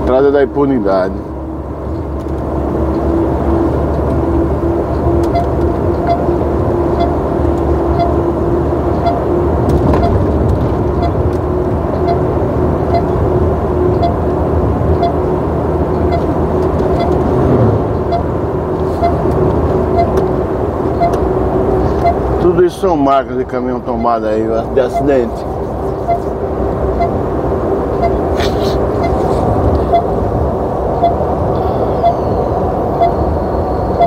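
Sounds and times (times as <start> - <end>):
drivetrain whine: 0.0 - 34.0
truck engine droning: 0.0 - 34.0.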